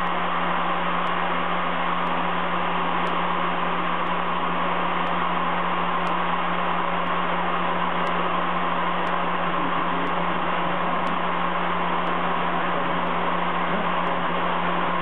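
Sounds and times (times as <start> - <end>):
spindle hum: 0.0 - 15.0.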